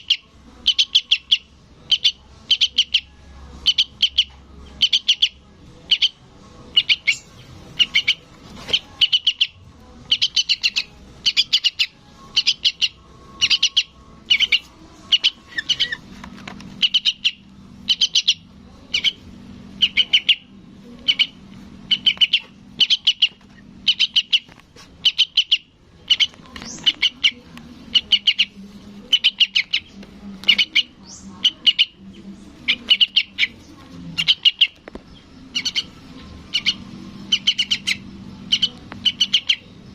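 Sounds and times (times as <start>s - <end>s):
young bird chirping: 0.0s - 16.1s, 16.7s - 39.9s
faint low hum: 0.0s - 39.9s.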